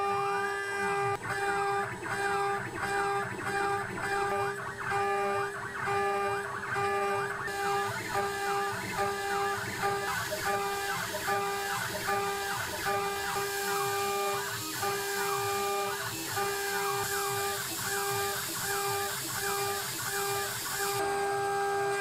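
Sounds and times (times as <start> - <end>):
router spindle high-pitched whine: 0.0 - 22.0.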